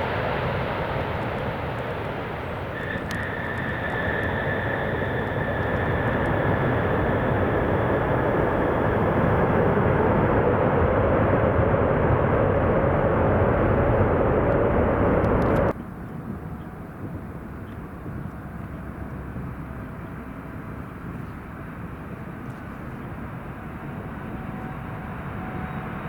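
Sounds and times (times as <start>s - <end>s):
jet engines with fan whine: 0.0s - 26.0s.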